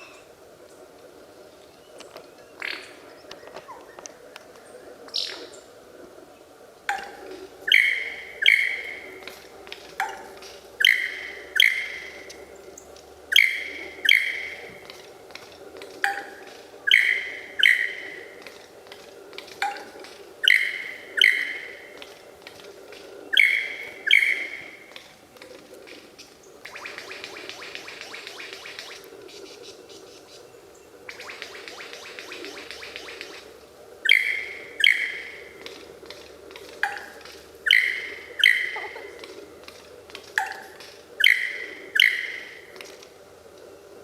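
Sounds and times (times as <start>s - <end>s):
bird calling: 0.0s - 44.0s.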